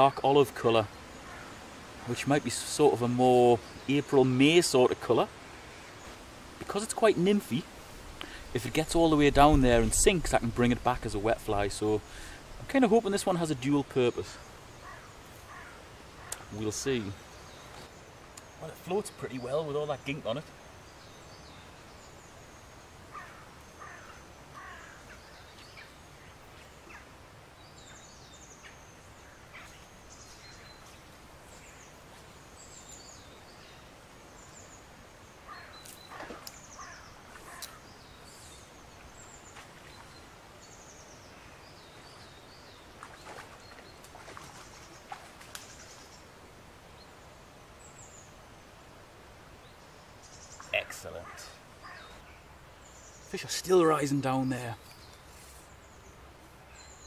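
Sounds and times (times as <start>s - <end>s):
outdoor hiss: 0.0s - 57.0s
songbirds chirping and trilling: 0.0s - 57.0s.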